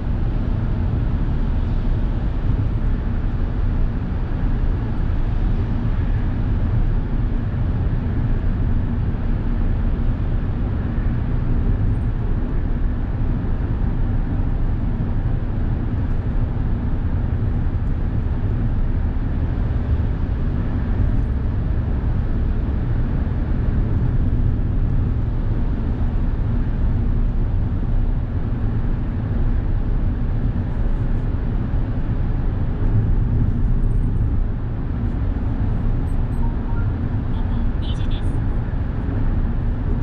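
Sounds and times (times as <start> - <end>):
car road and engine drone: 0.0 - 40.0.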